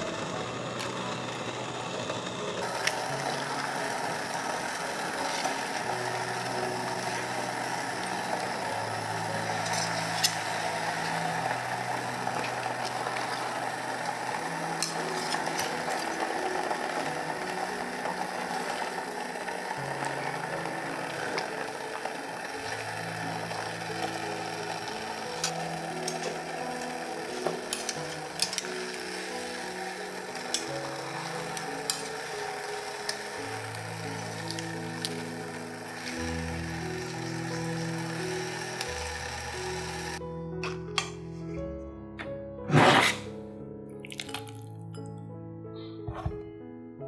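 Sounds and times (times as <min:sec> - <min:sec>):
mechanical grinding: 0:00.0 - 0:40.2
soft background music: 0:00.0 - 0:47.0.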